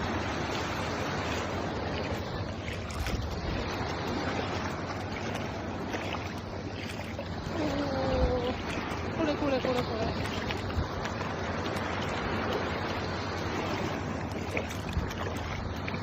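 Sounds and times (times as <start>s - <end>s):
seawater lapping: 0.0s - 16.0s
wind buffeting microphone: 0.0s - 16.0s.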